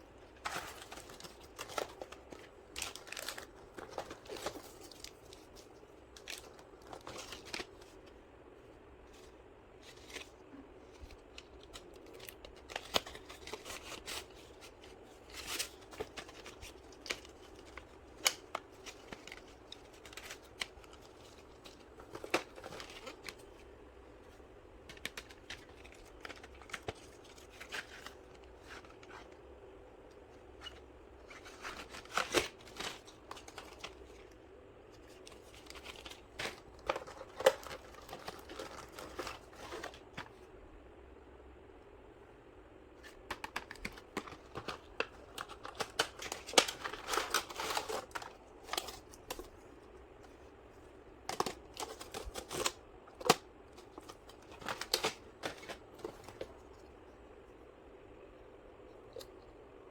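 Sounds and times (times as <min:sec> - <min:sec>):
packaging rustling: 0:00.2 - 0:08.1, 0:09.1 - 0:29.4, 0:30.4 - 0:40.4, 0:43.0 - 0:49.6, 0:51.2 - 0:56.9.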